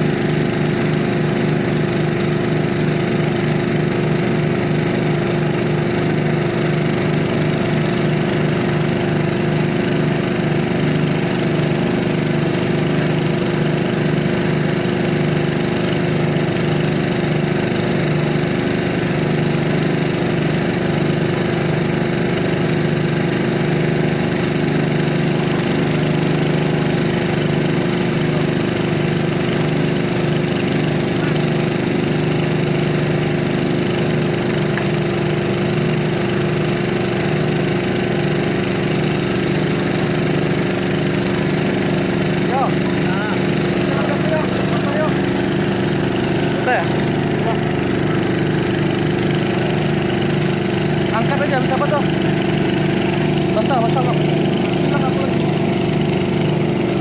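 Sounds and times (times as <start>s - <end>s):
small engine running steadily: 0.0s - 57.0s.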